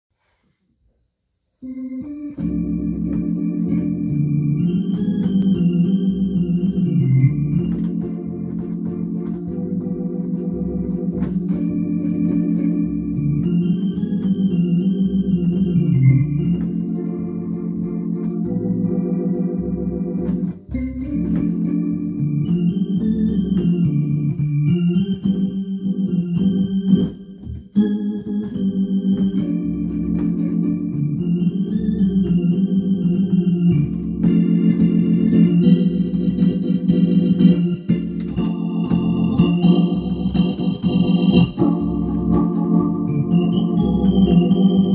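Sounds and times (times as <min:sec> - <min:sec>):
organ playing a slow tune: 0:01.6 - 0:44.9.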